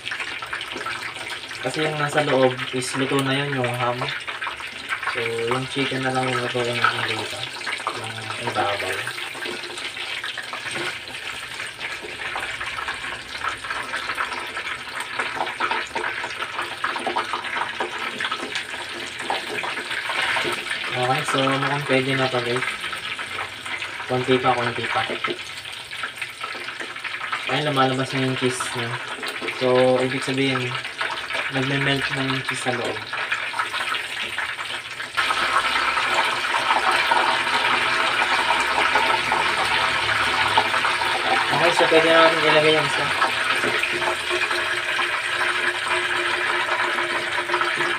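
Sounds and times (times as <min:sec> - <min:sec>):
food deep-frying in oil: 0:00.0 - 0:47.9.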